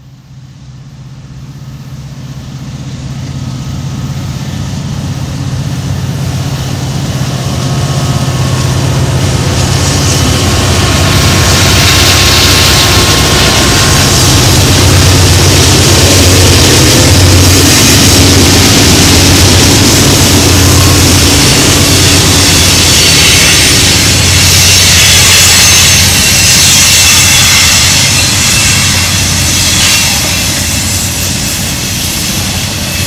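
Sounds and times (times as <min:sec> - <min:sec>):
diesel locomotive engine drone: 0:00.0 - 0:33.0
train rushing noise: 0:00.0 - 0:33.0.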